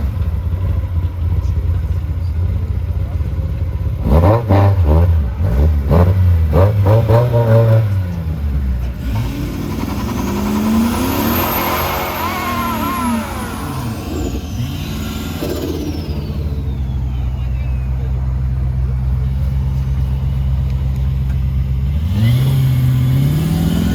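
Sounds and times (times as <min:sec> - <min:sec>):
car accelerating with high whine: 0:00.0 - 0:23.9
car engines revving hard: 0:00.0 - 0:23.9.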